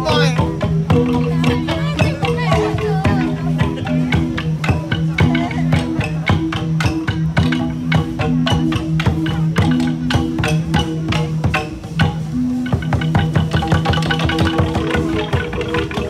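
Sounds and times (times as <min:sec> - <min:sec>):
gong ensemble playing: 0:00.0 - 0:16.0.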